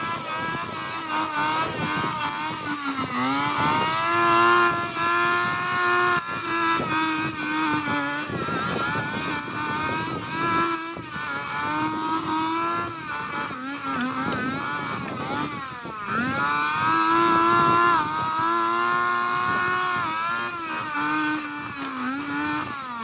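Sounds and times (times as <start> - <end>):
brush cutter engine running: 0.0 - 23.0.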